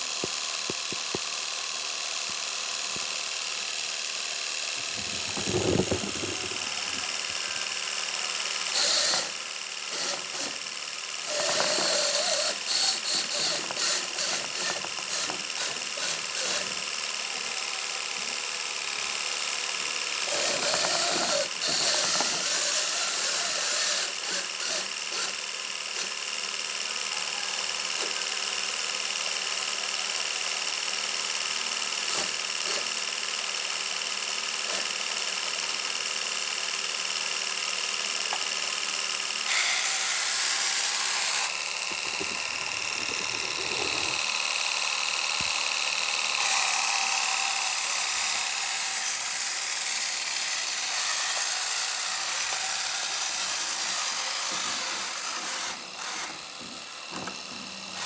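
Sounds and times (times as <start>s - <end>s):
electric motor whining: 0.0s - 28.3s, 39.4s - 58.0s.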